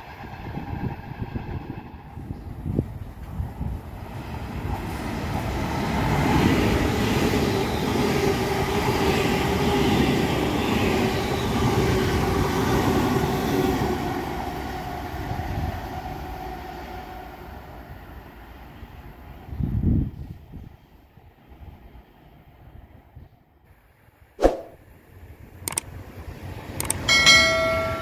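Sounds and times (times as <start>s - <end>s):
train passing at speed: 0.0s - 23.4s, 24.4s - 28.0s.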